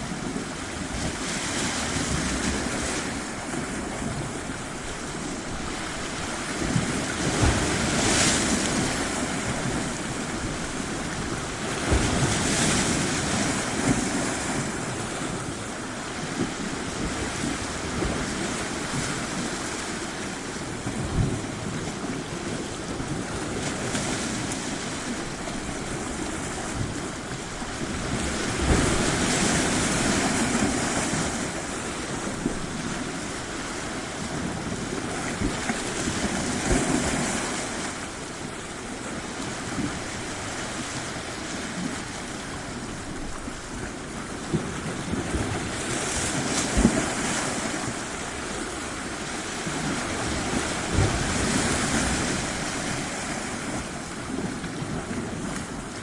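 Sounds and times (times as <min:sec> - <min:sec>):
surf washing onto shore: 0:00.0 - 0:56.0.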